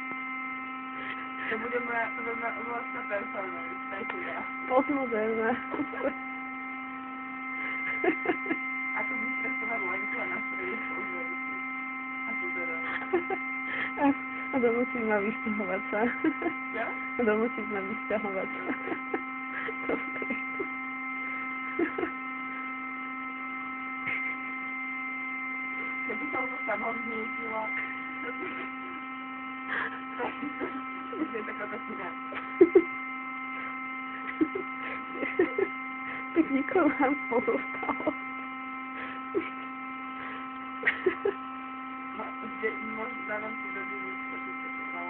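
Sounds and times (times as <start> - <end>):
electric air pump humming: 0.0 - 45.0.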